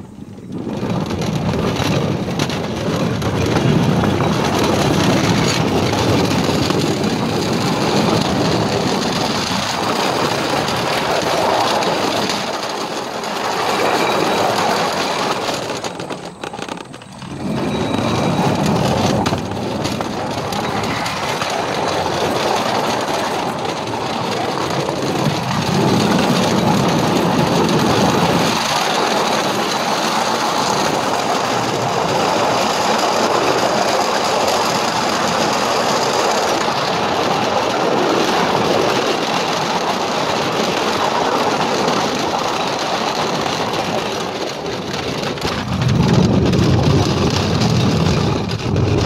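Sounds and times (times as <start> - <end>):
rail kart wheels rumbling on rails: 0.0 - 49.0.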